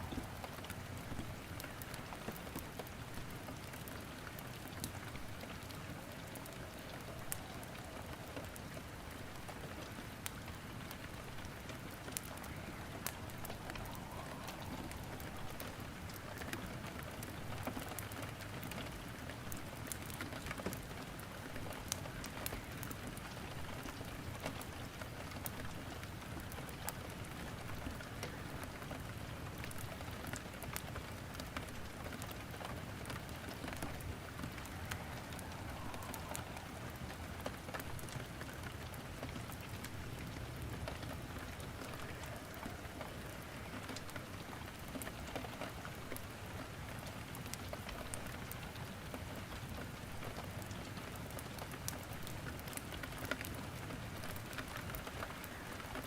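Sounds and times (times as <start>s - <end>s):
rain hiss: 0.0s - 56.0s
wood crackling in fireplace: 0.0s - 56.0s.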